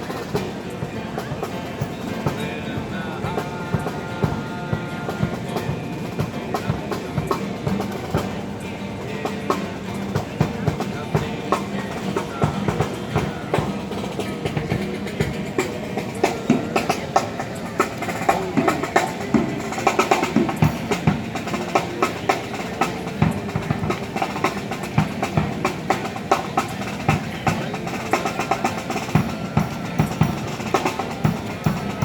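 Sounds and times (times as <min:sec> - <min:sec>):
rapid drum strikes: 0:00.0 - 0:32.0.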